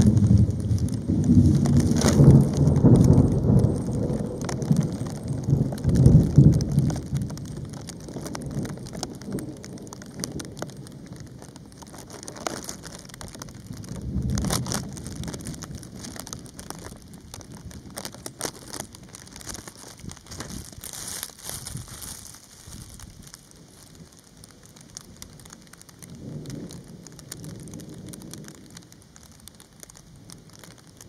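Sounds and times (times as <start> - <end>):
light rain pattering: 0.0 - 31.0
thunder rumbling: 0.0 - 31.0.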